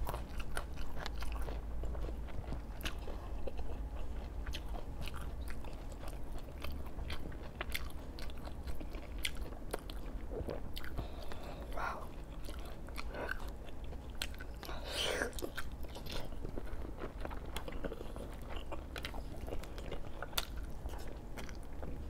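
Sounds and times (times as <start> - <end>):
low steady hum: 0.0 - 22.0
person chewing food: 0.0 - 22.0.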